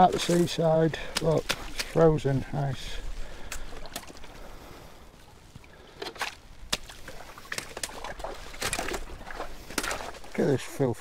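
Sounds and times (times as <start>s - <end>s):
scraping and sloshing: 0.0s - 10.9s.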